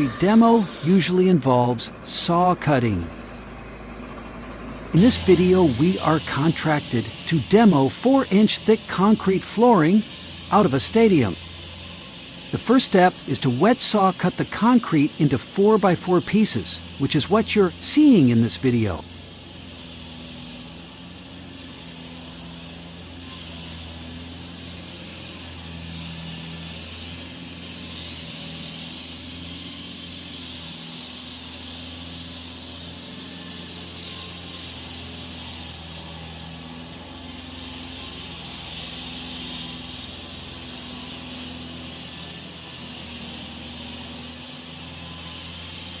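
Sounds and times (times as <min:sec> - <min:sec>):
blade and water spray hiss: 0:00.0 - 0:03.1, 0:04.7 - 0:46.0
concrete saw engine hum: 0:00.0 - 0:46.0.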